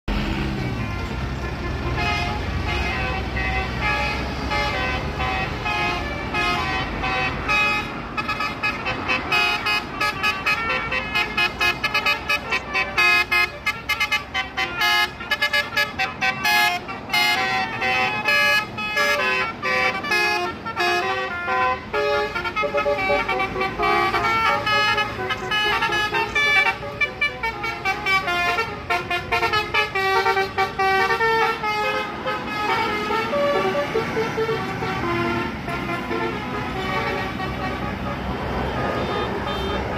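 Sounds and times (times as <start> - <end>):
multi-tone bus horn tune: 0.1 - 39.9.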